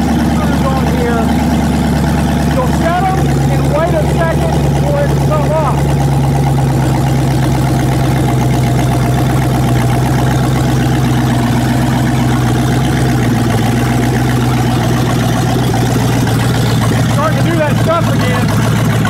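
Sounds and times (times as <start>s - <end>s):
engine idling without exhaust: 0.0s - 19.0s.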